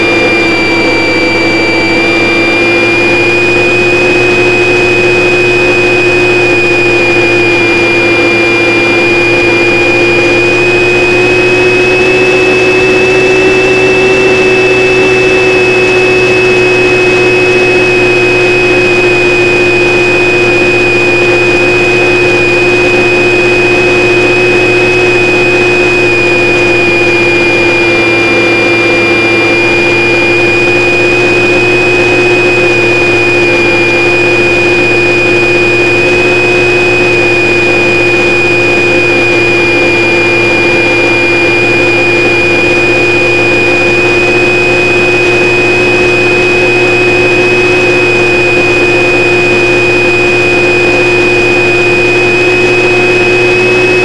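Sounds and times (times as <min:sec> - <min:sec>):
model plane motor drone: 0:00.0 - 0:54.0.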